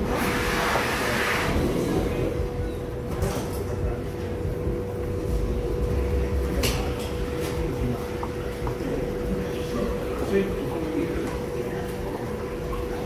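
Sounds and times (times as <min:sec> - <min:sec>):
low room rumble with hum: 0:00.0 - 0:13.0.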